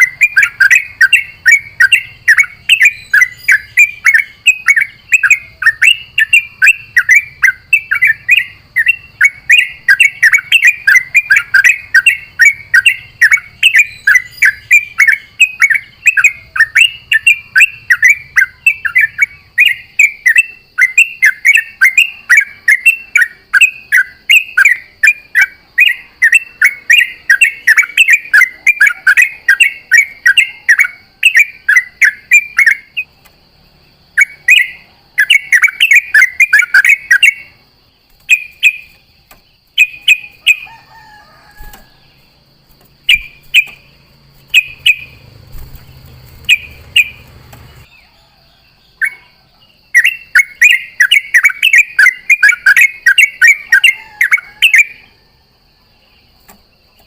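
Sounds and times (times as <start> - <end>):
bird chirping song: 0.0 - 57.0.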